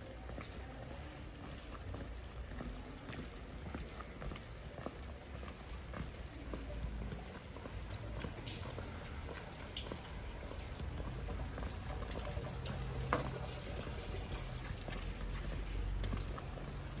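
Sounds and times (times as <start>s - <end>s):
rain falling and dripping: 0.0s - 17.0s.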